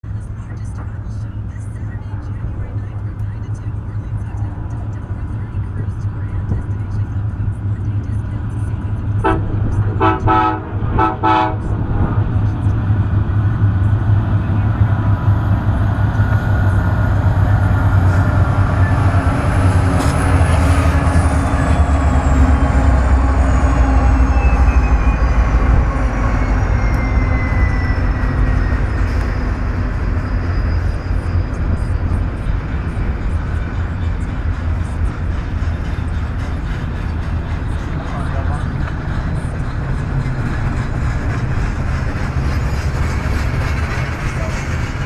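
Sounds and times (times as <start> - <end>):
freight train passing: 0.0 - 45.0.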